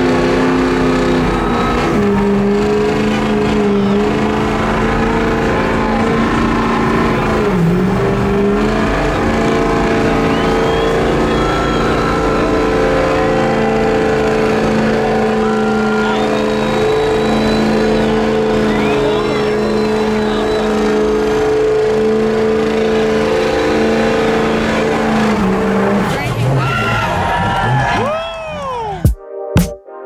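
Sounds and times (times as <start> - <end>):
truck engines running: 0.0 - 29.2.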